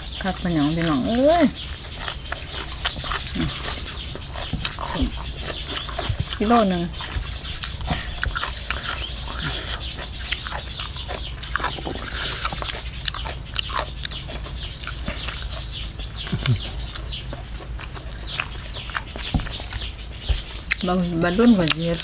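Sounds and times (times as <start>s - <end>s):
person chewing with crunches: 0.0s - 22.0s
steady low hum: 0.0s - 22.0s.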